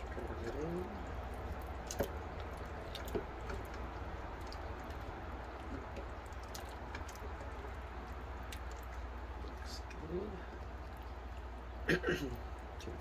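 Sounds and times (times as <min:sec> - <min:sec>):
liquid sloshing: 0:00.0 - 0:13.0
steady low hum: 0:00.0 - 0:13.0.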